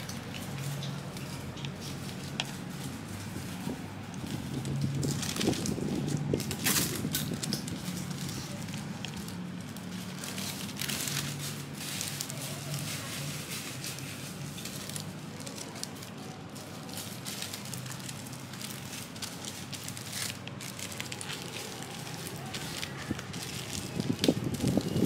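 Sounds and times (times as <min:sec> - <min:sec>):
wrapping sheet crinkling: 0:00.0 - 0:25.0.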